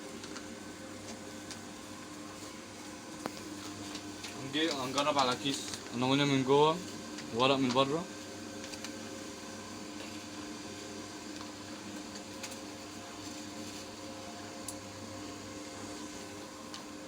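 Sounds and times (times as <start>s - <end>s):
sealer motor and fan humming: 0.0s - 17.0s.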